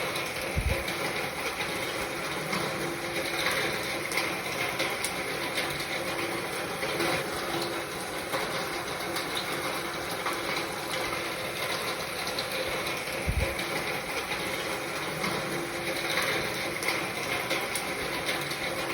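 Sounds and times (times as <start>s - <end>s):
rain falling: 0.0s - 18.9s.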